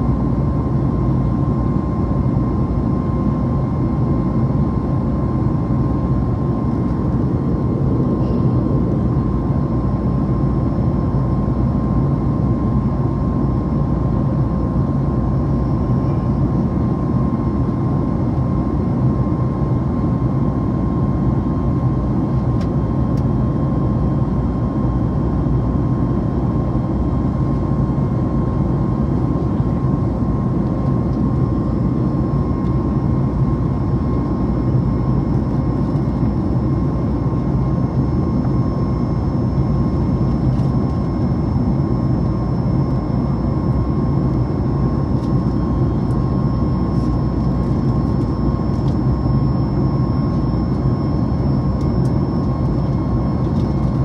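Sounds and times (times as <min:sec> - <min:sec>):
airplane cabin engine noise: 0:00.0 - 0:54.0
thin steady whine: 0:00.0 - 0:54.0.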